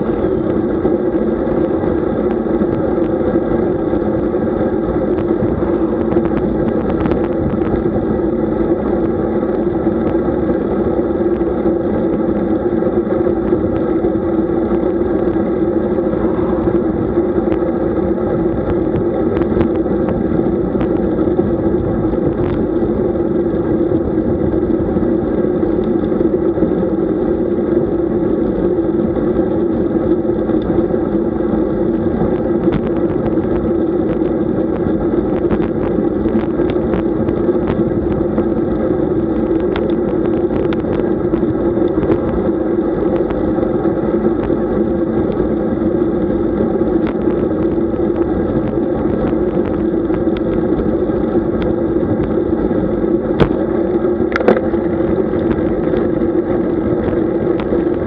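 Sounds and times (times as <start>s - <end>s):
bike road noise: 0.0s - 58.0s
rushing wind: 0.0s - 58.0s.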